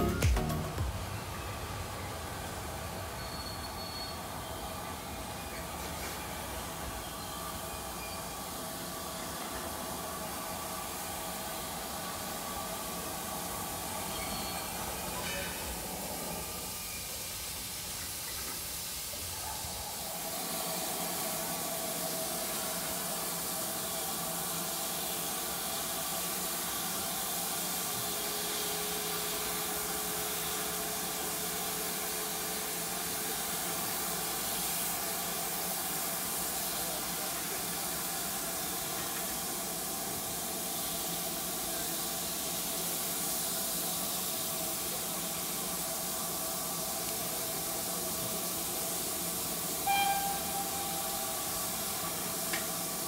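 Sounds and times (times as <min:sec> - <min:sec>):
steam locomotive hissing: 0:00.0 - 0:53.0.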